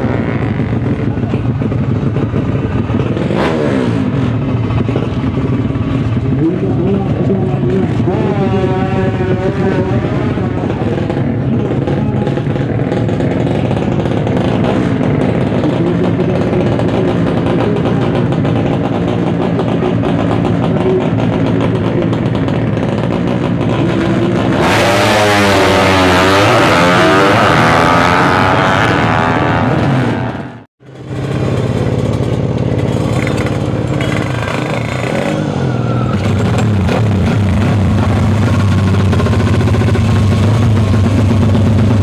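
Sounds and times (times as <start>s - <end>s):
motorcycle engine revving: 0.0s - 42.0s
racing motorcycle engines: 0.0s - 42.0s.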